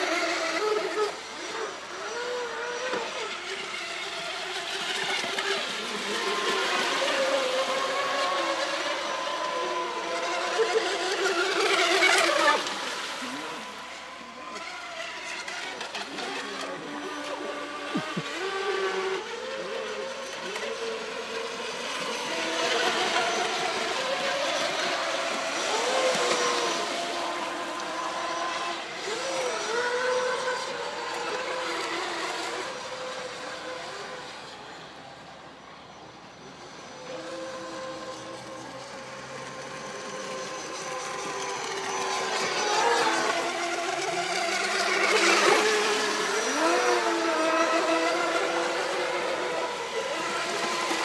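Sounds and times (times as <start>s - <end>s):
rc boat motors whining: 0.0s - 51.0s.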